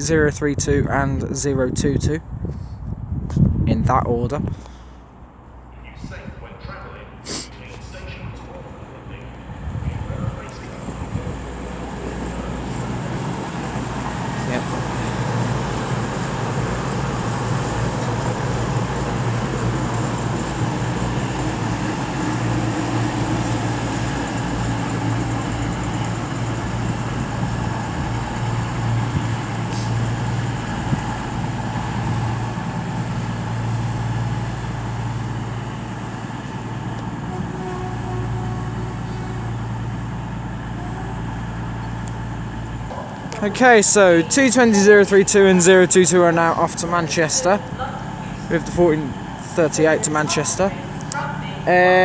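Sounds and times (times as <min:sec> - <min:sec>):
train diesel engines droning: 0:00.0 - 0:03.2, 0:03.8 - 0:52.0.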